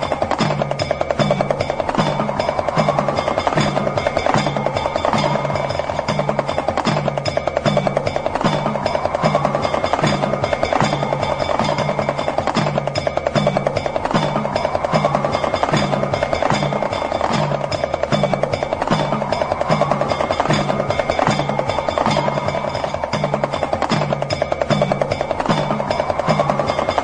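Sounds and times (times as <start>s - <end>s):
bell-like ringing: 0.0s - 27.0s
rattle drum rattling: 0.0s - 27.0s.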